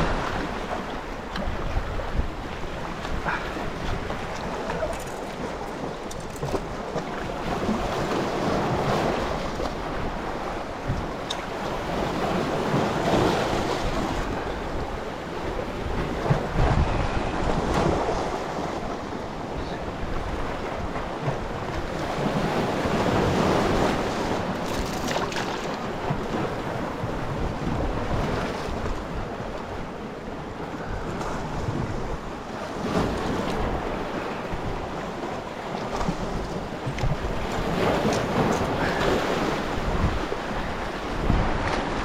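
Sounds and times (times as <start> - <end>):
sea waves splashing: 0.0 - 42.0
wind buffeting microphone: 0.0 - 42.0.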